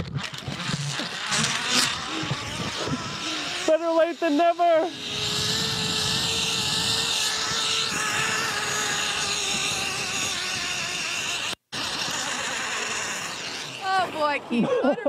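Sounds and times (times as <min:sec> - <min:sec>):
zip-line trolley whine: 0:00.0 - 0:15.0.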